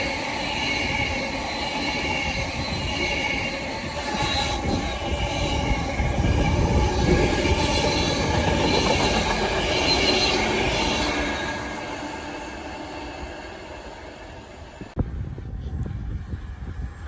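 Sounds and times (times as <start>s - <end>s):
high wheel squeal: 0.0s - 14.6s
train rumbling past: 0.0s - 17.0s.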